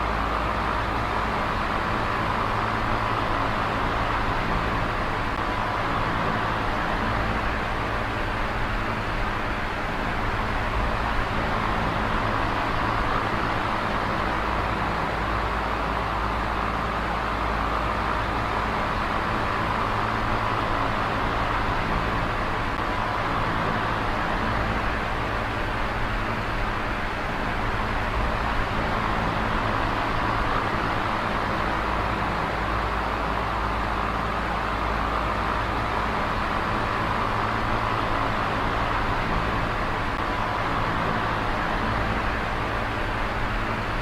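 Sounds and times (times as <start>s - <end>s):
electric fan whirring: 0.0s - 44.0s.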